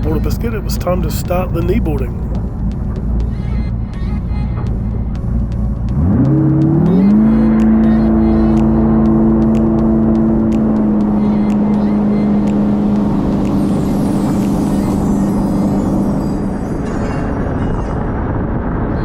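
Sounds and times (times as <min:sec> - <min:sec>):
boat engine revving: 0:00.0 - 0:18.8.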